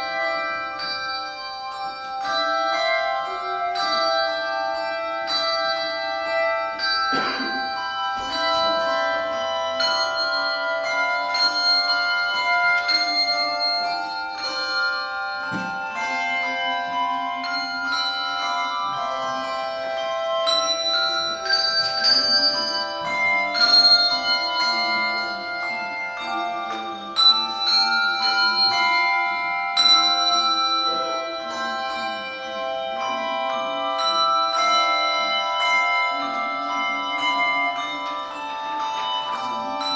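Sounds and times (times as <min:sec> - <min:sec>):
handbell choir playing: 0:00.0 - 0:39.9.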